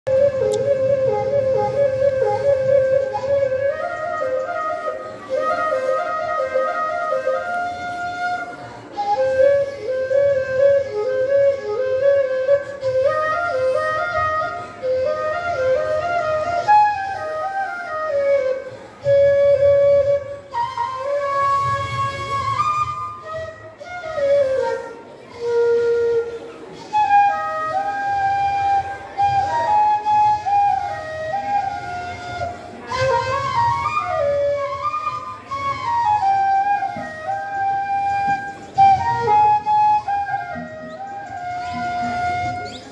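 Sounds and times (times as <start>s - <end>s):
flute solo melody: 0.0s - 42.9s.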